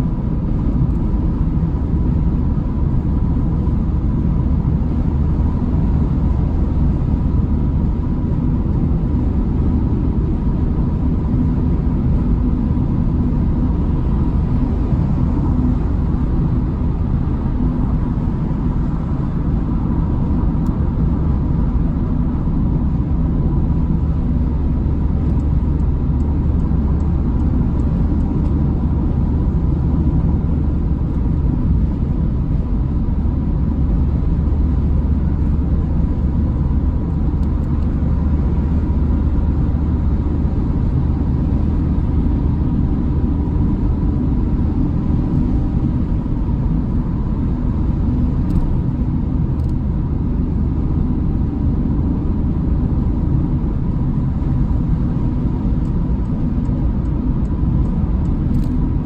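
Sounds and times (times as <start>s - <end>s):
car tyre and engine rumble: 0.0s - 59.0s.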